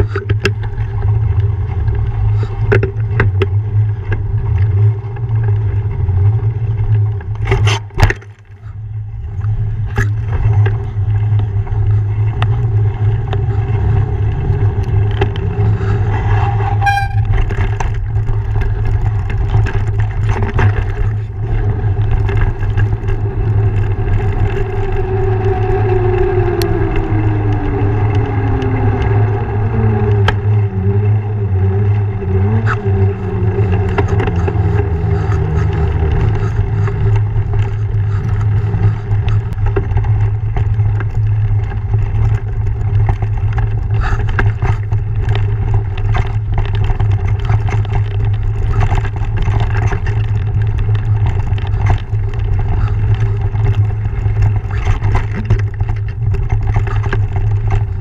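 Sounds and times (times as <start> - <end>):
bike rattling over rocks: 0.0 - 58.0
low rumble with buzzing tone: 0.0 - 58.0.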